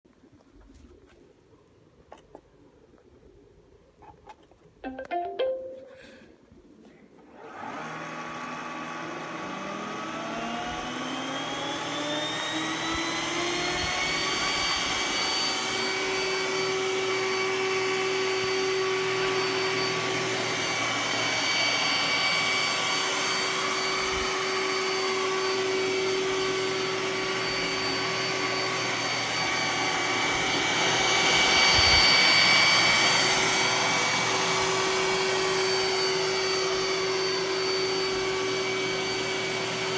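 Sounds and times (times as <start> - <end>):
robot vacuum motor whine: 7.4 - 39.9.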